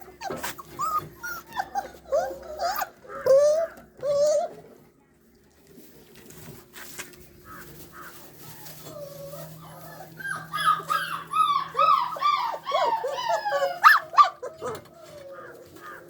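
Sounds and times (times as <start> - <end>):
puppies whimpering and whining: 0.0 - 4.8, 7.5 - 16.0.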